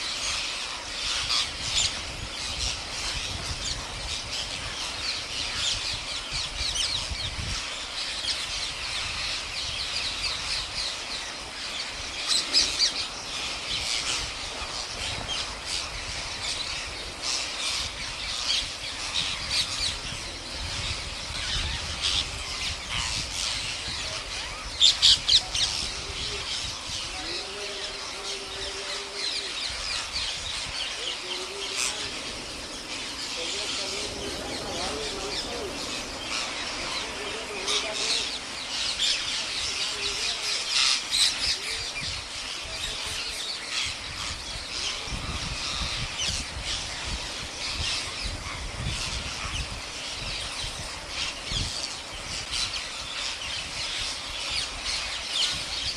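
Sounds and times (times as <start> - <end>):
flock of parakeets squawking: 0.0 - 55.9.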